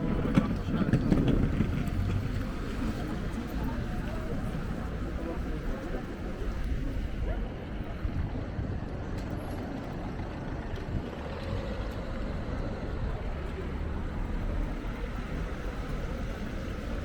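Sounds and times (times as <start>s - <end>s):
heavy vehicle engine rumbling: 0.0s - 17.0s.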